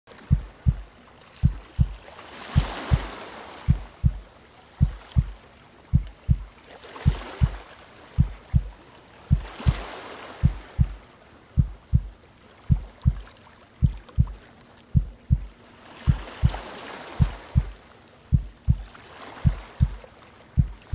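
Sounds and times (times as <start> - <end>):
ocean waves: 0.1 - 20.9
heartbeat thumps: 0.2 - 2.0, 2.6 - 3.1, 3.7 - 7.6, 8.2 - 11.0, 11.6 - 16.6, 17.2 - 20.0, 20.6 - 20.9.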